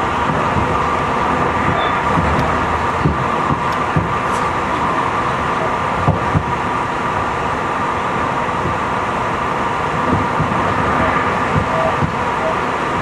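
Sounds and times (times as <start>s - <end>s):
low thuds from track: 0.0s - 7.2s, 8.5s - 12.6s
constant electric whine: 0.0s - 13.0s
train wheels rumbling on rail: 0.0s - 13.0s.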